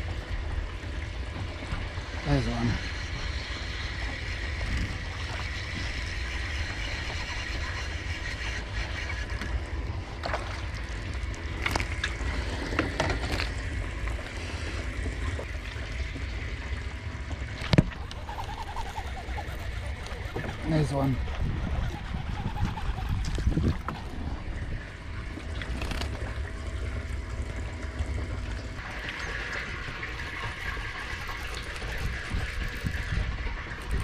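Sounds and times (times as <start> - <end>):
low wind rumble: 0.0 - 34.0
water noise: 0.0 - 34.0.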